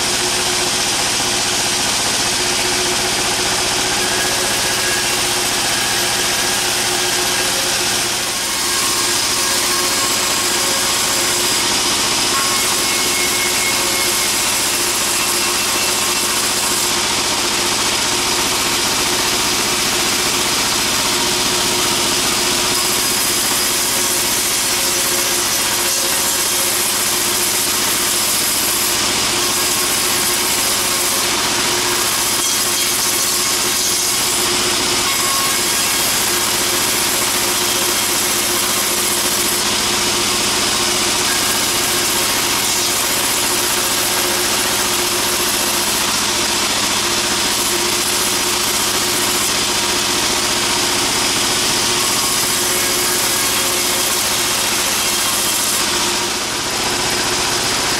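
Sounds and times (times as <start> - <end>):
band saw machinery running: 0.0 - 57.9.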